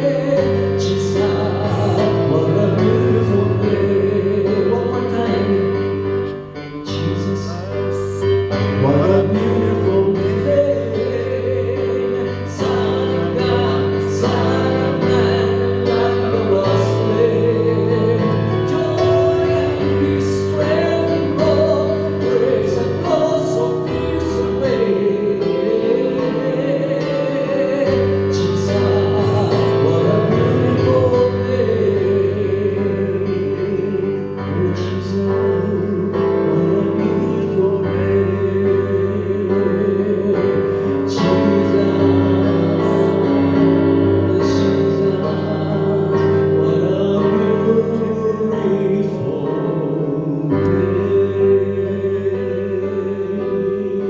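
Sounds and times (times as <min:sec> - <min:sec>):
person singing: 0:00.0 - 0:54.0
slow worship band music: 0:00.0 - 0:54.0.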